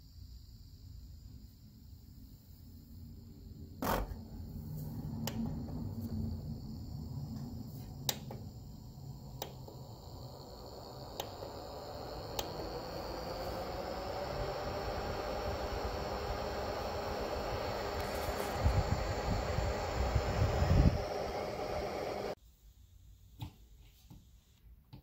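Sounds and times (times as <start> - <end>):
ventilator fan rushing air: 2.1 - 22.4.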